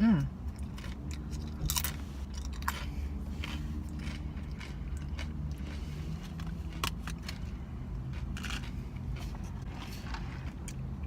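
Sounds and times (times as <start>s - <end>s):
chips being chewed: 0.5s - 10.9s.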